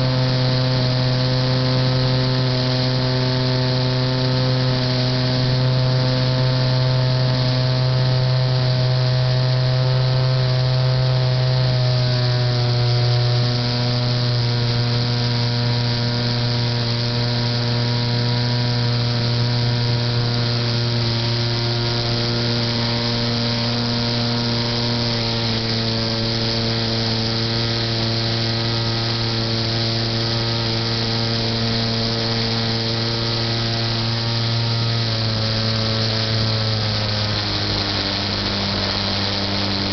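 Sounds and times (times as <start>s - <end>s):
model airplane motor droning: 0.0s - 39.9s.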